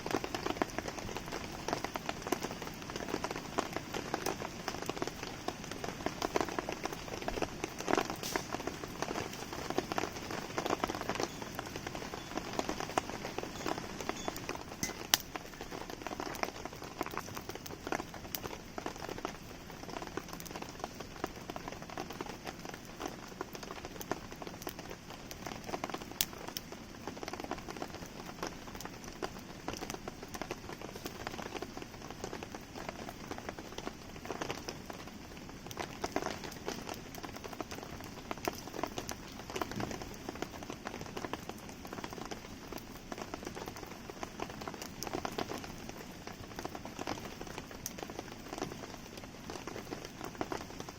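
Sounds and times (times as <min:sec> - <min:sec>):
campfire crackling: 0:00.0 - 0:50.9
rain pattering: 0:00.0 - 0:50.9.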